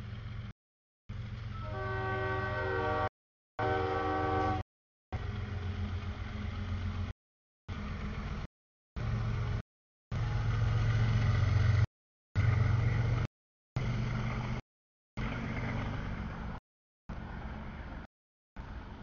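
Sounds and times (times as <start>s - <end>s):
diesel locomotive engine hum: 0.0s - 14.6s, 15.2s - 19.0s.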